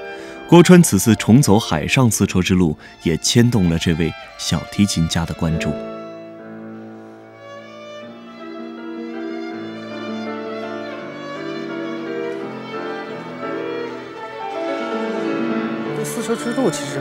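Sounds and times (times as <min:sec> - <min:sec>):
lower accompaniment: 0:00.0 - 0:17.0
violin slow melody: 0:00.0 - 0:17.0.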